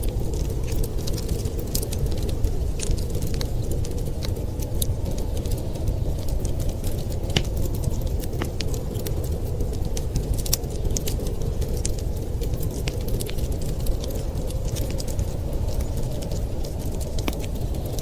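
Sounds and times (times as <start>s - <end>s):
low rumble of wind: 0.0s - 18.0s
wood fire crackling: 0.0s - 18.0s.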